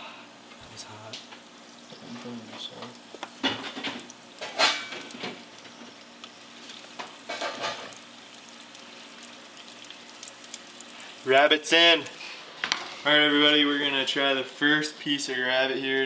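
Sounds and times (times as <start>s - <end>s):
oil sizzling in deep fryer: 0.0s - 16.0s.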